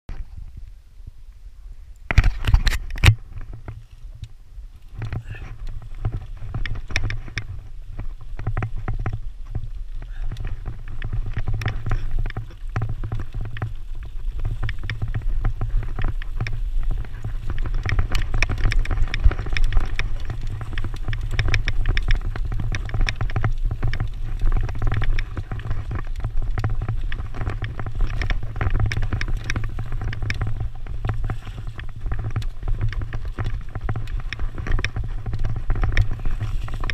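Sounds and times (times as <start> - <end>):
bike tyres rolling over leaves: 0.1 - 36.9
wind rumble on microphone: 0.1 - 36.9
bike rattling: 2.1 - 36.9.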